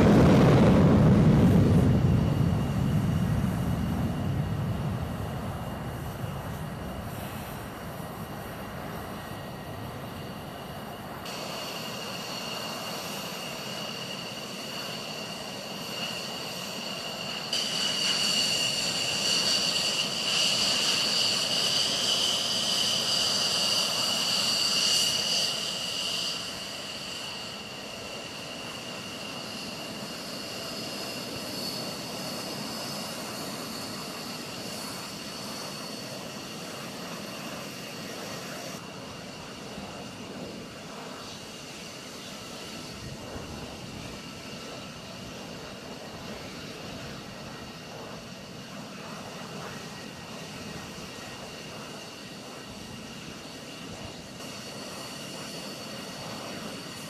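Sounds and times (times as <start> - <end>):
fighter jet engines whining: 0.0 - 57.0.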